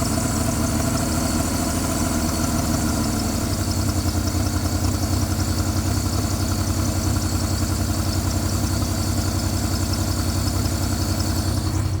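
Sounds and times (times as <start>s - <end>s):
rough engine idling: 0.0s - 12.0s.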